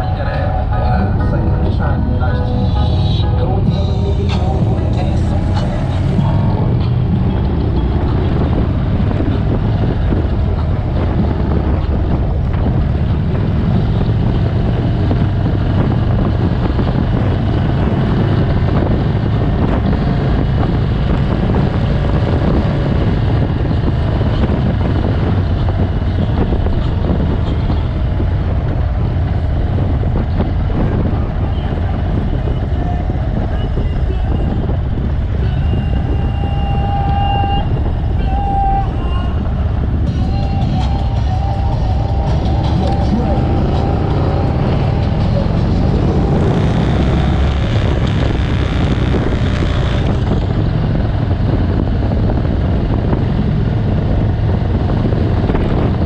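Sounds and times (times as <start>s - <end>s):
motorcycles running: 0.0s - 56.0s
wind on microphone: 0.0s - 56.0s.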